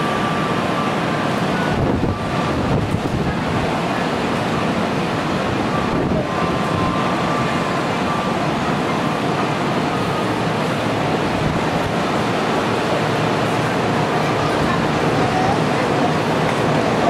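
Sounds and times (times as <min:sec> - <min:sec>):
diesel railcar engine running: 0:00.0 - 0:17.0.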